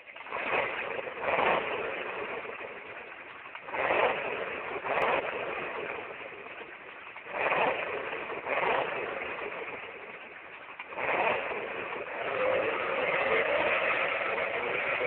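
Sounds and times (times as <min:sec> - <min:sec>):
recorded engine revving alarm: 0:00.0 - 0:15.0.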